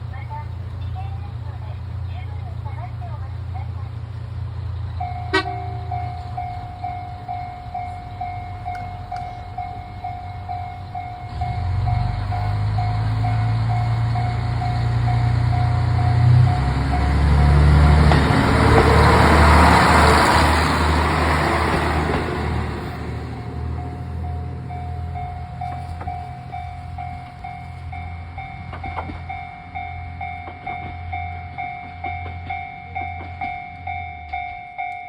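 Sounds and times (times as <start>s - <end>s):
diesel railcar engine: 0.0s - 35.0s
wheel and rail noise: 0.0s - 35.0s.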